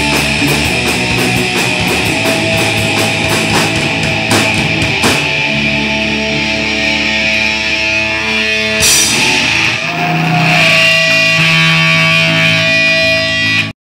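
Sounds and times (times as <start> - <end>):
punk rock band playing: 0.0 - 13.7
distorted electric guitar chords: 0.0 - 13.8.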